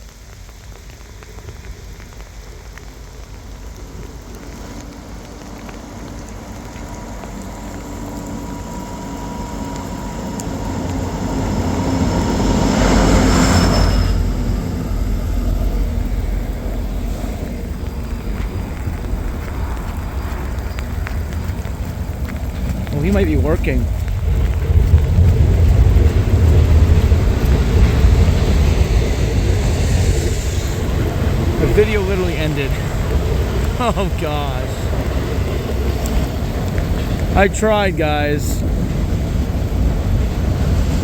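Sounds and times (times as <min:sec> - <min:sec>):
diesel locomotive engine: 0:00.0 - 0:41.0
rail cars rumbling past: 0:03.4 - 0:41.0.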